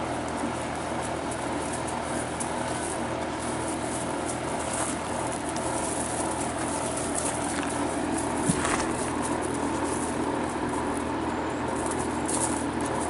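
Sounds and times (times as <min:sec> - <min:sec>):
puppies scuffling on gravel: 0:00.0 - 0:13.0
steady background hum: 0:00.0 - 0:13.0.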